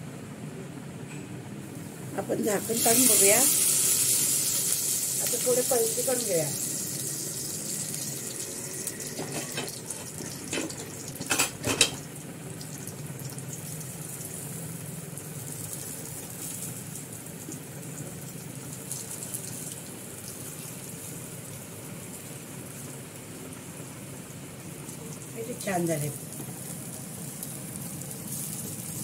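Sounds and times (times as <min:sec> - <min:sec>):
cutlets sizzling in oil: 0:02.2 - 0:29.0.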